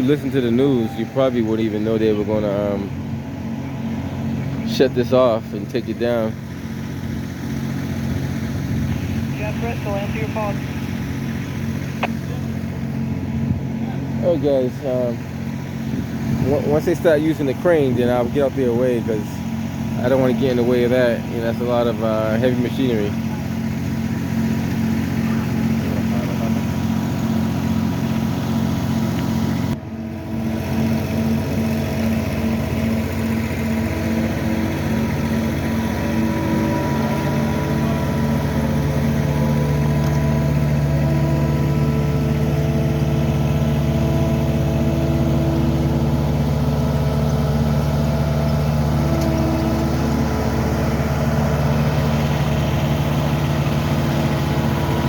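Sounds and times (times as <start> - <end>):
heavy construction machinery engines: 0.0 - 55.0.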